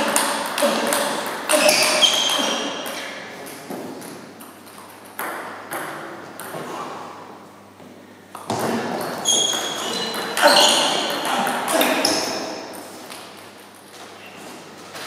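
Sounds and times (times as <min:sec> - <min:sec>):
table tennis ball hits: 0:00.0 - 0:06.9, 0:08.3 - 0:13.5.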